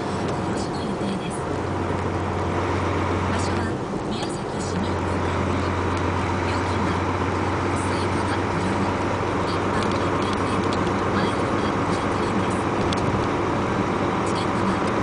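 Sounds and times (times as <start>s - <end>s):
road noise: 0.0s - 15.0s
truck diesel engine droning: 0.0s - 15.0s.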